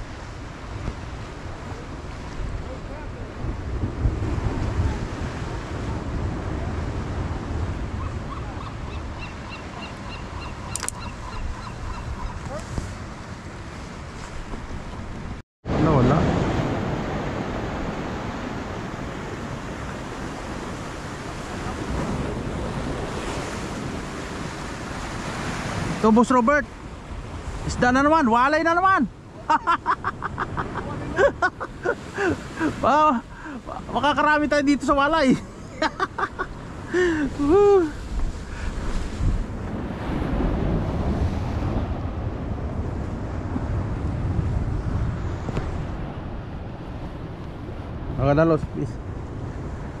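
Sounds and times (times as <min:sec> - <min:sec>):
wind buffeting microphone: 0:00.0 - 0:26.1, 0:35.2 - 0:50.0
ocean surf breaking: 0:00.0 - 0:50.0.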